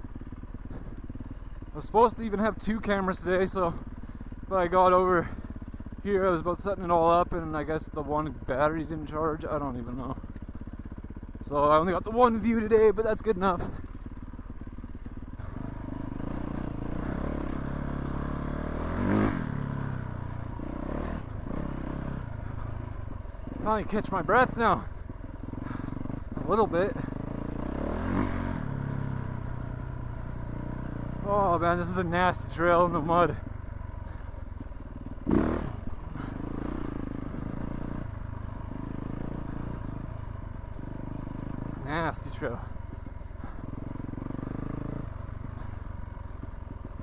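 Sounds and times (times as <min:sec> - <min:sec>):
motorcycle engine idling: 0:00.0 - 0:47.0.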